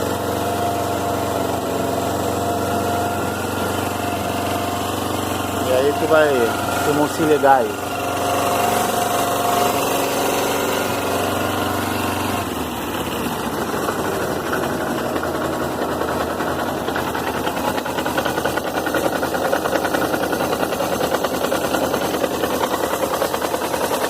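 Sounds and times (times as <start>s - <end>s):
fast even knocking rattle: 0.0s - 24.0s
motorcycle engine idling: 0.0s - 24.0s.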